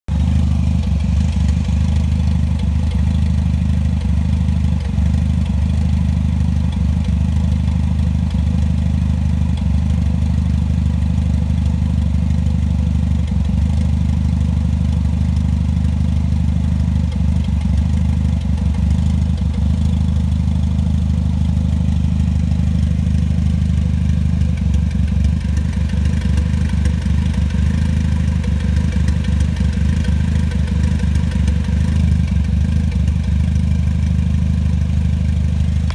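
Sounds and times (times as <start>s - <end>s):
car engine idling with stumbles: 0.1s - 35.9s.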